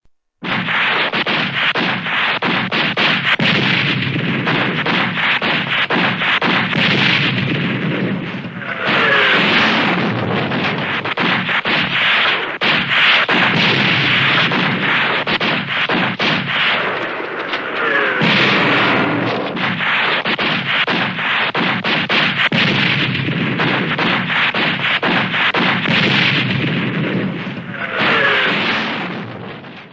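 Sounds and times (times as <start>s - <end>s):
artillery and explosions rumble: 0.4s - 29.9s
rapid gunfire: 0.4s - 29.9s.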